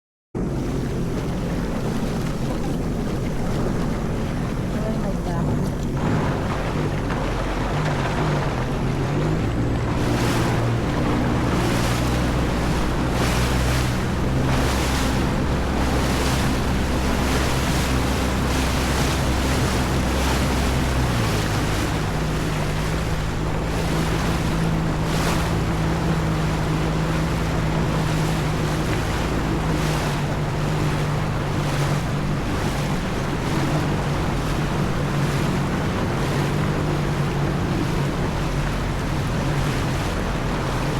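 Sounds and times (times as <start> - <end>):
hull smacking on water: 0.4 - 40.9
jet ski engine running: 0.4 - 40.9
wind buffeting microphone: 0.4 - 40.9.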